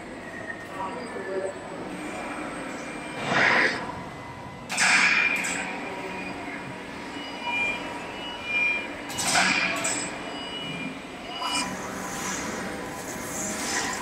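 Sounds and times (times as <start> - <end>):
industrial machinery hum: 0.0 - 14.0.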